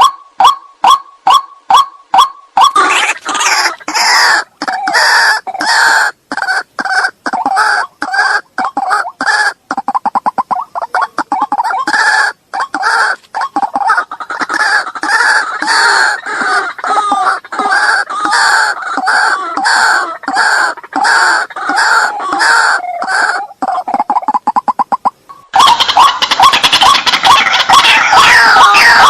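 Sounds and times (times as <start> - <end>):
bird calling harshly: 0.0 - 29.0.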